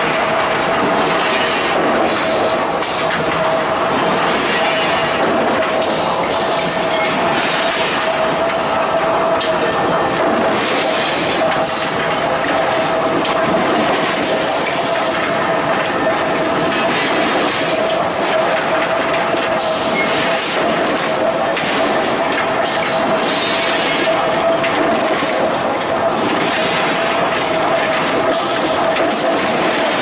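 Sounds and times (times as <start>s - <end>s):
machine clicks and knocks: 0.0s - 30.0s
steady machine noise with whine: 0.0s - 30.0s.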